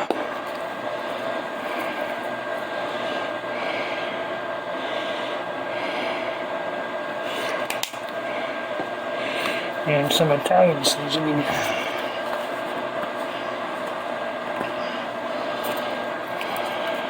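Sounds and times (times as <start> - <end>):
appliance fan whirring: 0.0 - 17.0.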